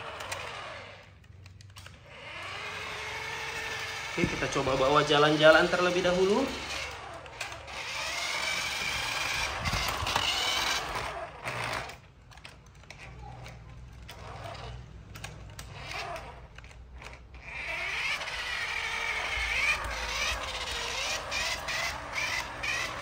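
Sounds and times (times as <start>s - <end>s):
toy electric motor whining: 0.0s - 23.0s.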